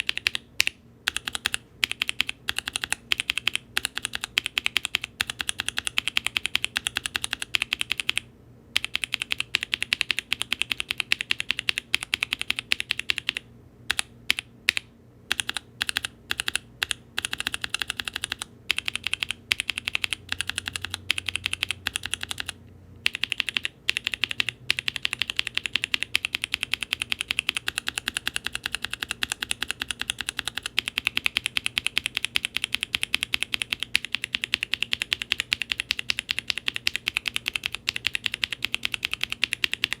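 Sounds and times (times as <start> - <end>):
mechanical keyboard typing: 0.0 - 40.0.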